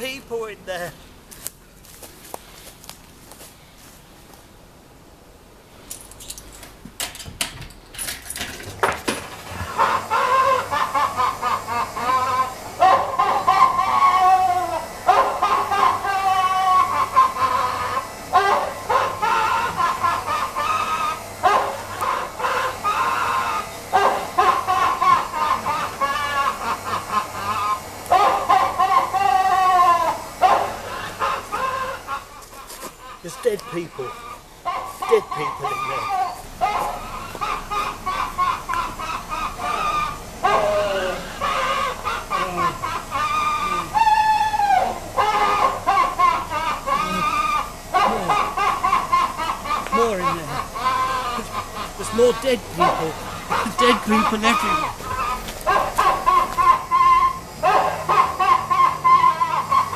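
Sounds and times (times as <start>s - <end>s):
automaton laughing: 9.7s - 21.2s, 21.8s - 59.9s.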